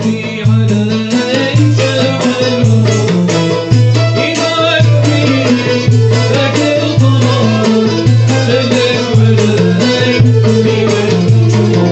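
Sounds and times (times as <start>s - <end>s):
low drum beats: 0.0s - 11.9s
oud playing melody: 0.0s - 11.9s
violin playing melody: 1.2s - 11.9s.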